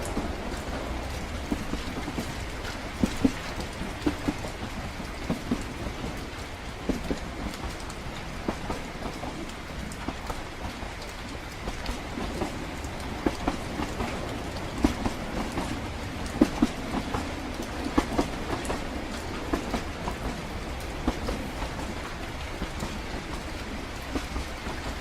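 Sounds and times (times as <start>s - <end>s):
moving train rumble: 0.0s - 25.0s
rain pattering: 0.0s - 25.0s.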